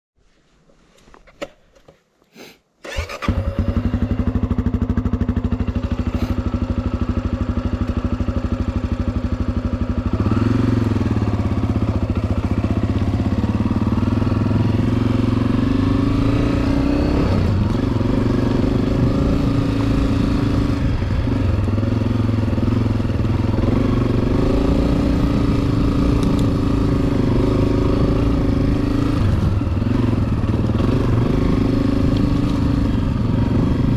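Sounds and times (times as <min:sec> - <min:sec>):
dirt bike engine: 0:02.8 - 0:33.9.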